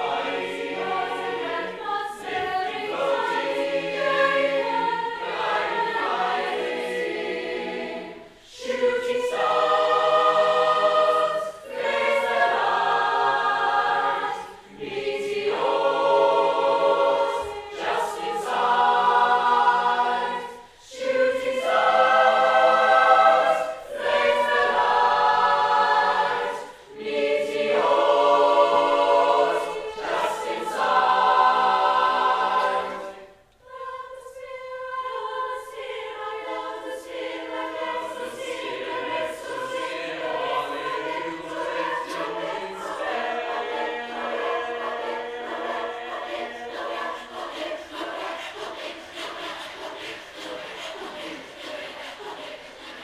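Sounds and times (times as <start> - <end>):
voices singing in harmony: 0.0 - 53.0.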